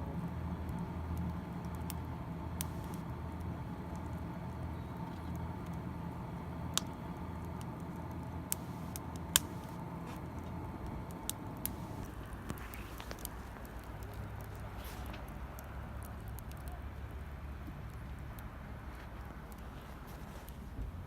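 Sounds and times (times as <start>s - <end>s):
steady low hum: 0.0s - 21.0s
campfire crackling and popping: 0.1s - 21.0s.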